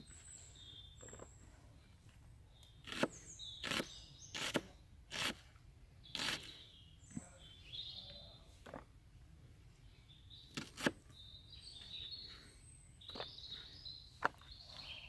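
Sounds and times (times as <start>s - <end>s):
birds chirping: 0.0s - 5.0s, 6.0s - 8.9s, 9.7s - 15.0s.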